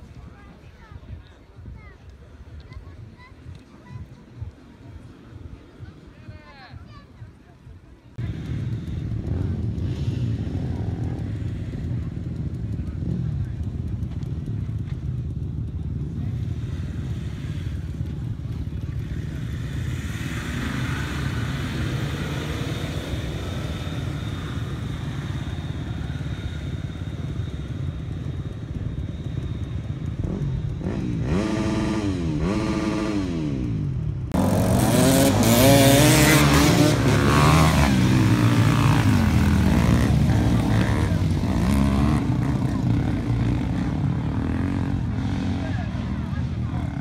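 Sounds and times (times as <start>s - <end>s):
dirt bike engines revving: 0.0s - 47.0s
car engine rumbling and revving: 8.2s - 47.0s.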